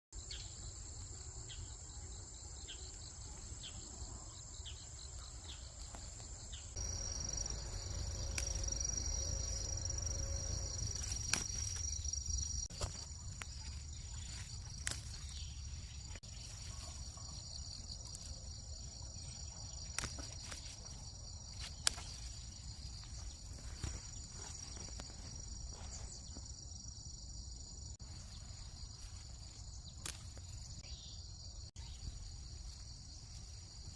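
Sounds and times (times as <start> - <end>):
insects chirping chorus: 0.2 - 33.9.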